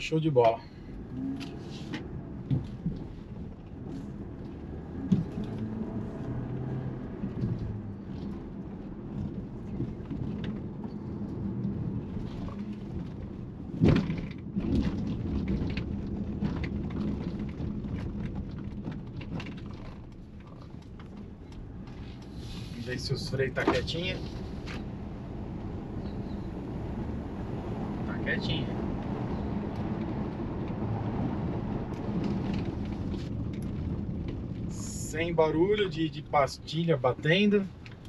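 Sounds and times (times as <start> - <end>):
car road rumble: 0.0 - 38.0.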